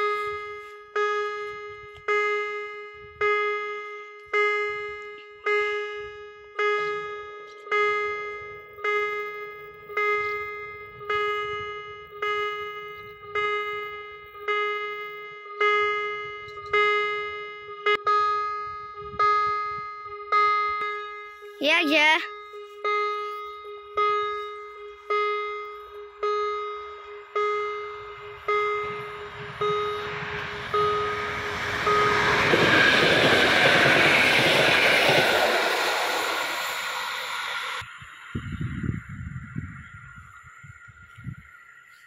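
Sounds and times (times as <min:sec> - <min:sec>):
level crossing warning bell: 0:00.0 - 0:39.1.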